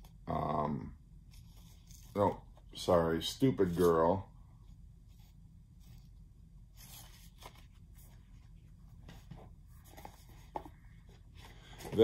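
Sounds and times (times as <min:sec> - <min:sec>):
paper sleeves rustling: 0:01.3 - 0:12.0.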